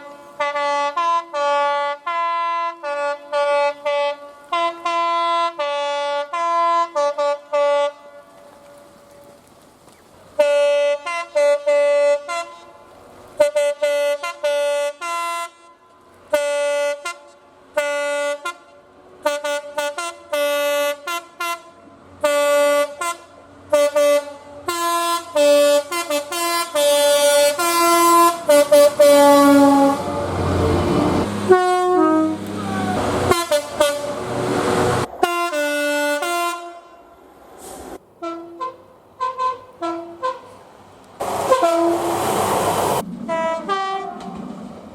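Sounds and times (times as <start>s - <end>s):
two-tone train horn blasts: 0.0s - 9.0s, 10.4s - 37.2s, 38.2s - 40.6s, 41.5s - 42.3s, 43.3s - 44.4s
passing train running noise: 0.0s - 44.9s.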